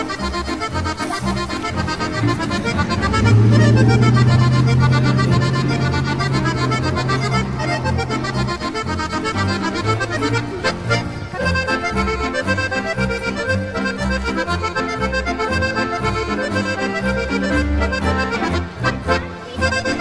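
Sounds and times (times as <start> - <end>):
accordion playing traditional tune: 0.0 - 20.0
repeating bass line: 1.4 - 18.8.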